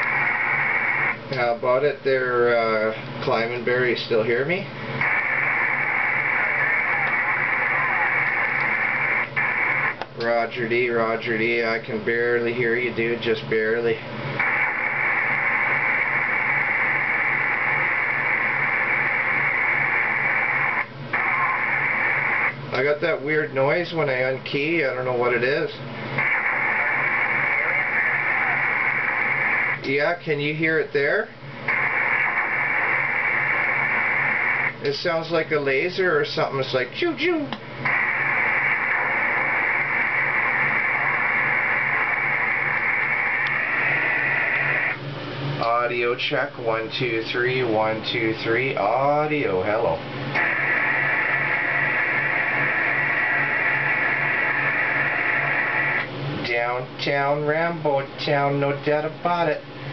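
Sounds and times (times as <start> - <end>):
low pulsing hum: 0.0 - 59.9
radio static hiss: 0.0 - 59.9.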